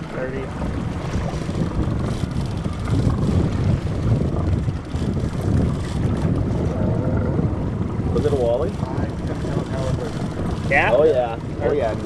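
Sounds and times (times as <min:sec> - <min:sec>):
boat motor drone: 0:00.0 - 0:12.0
wind buffeting microphone: 0:00.0 - 0:12.0.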